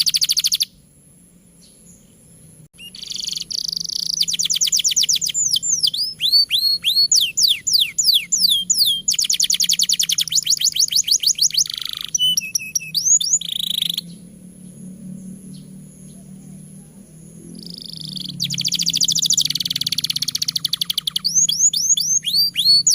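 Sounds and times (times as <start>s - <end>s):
canary singing: 0.0s - 0.8s, 1.6s - 22.9s.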